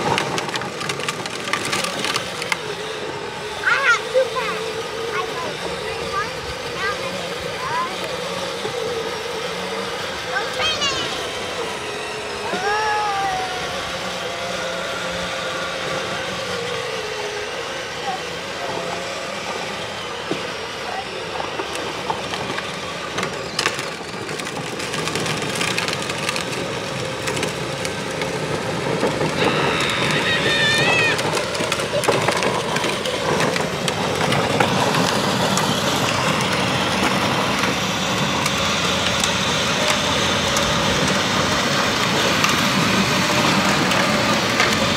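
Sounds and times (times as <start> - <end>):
electric motors whining: 0.0 - 44.9
wheels rolling on pavement: 0.0 - 44.9.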